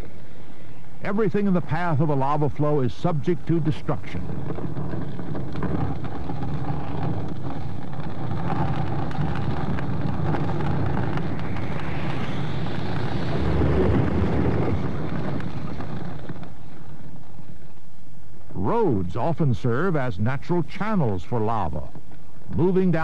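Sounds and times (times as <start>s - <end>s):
faint fire crackles: 0.0s - 23.0s
fire rushing: 0.0s - 23.0s.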